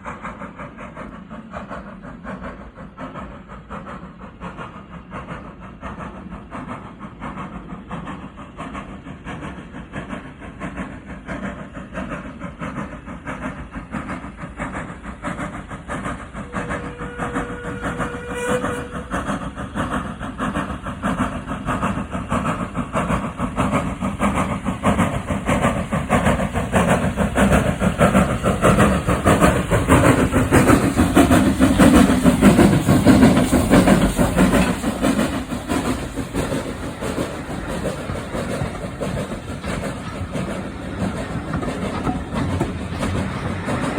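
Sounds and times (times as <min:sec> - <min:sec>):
train rumbling and clattering: 0:00.0 - 0:43.9.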